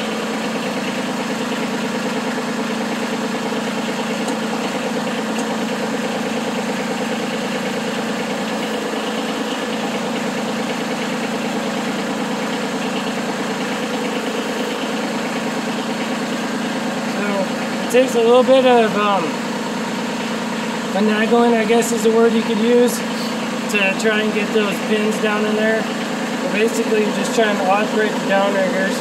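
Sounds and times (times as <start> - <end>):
diesel tractor engine idling: 0.0 - 29.0.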